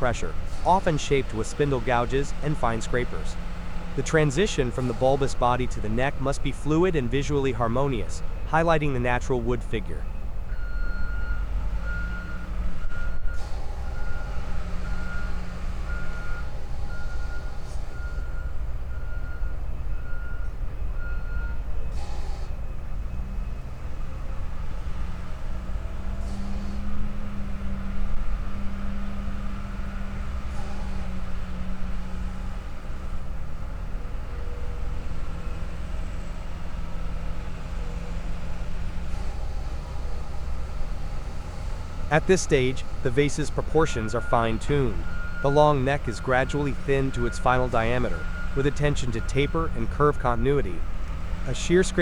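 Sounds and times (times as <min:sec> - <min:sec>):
low engine rumble: 0:00.0 - 0:52.0
vehicle reversing alarm beeping: 0:00.0 - 0:52.0.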